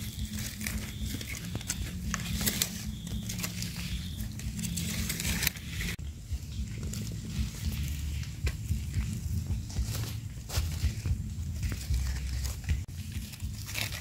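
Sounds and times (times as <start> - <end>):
leaf litter crackling and rustling: 0.0 - 14.0.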